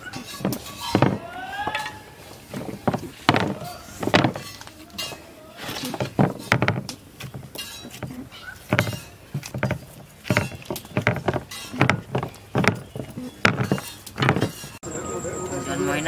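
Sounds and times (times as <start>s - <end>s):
hands kneading dough in metal bowl: 0.0s - 14.8s.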